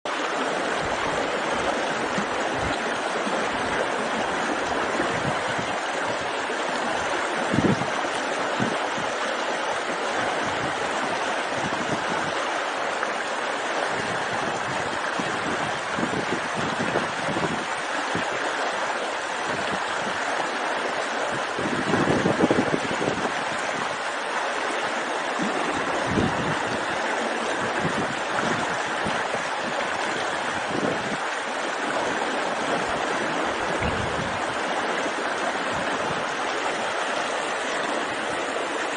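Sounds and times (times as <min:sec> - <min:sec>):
river rushing over stones: 0:00.1 - 0:38.9.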